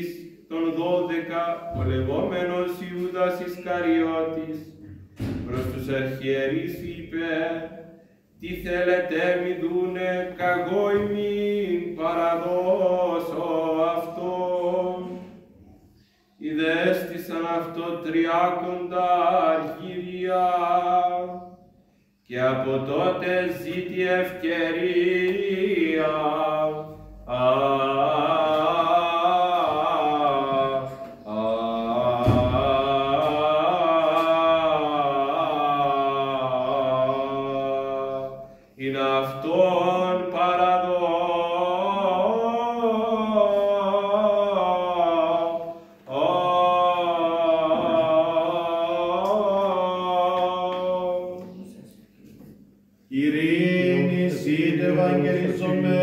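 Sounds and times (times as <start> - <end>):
man chanting: 0.0 - 15.3, 16.4 - 21.6, 22.3 - 51.6, 53.1 - 56.0.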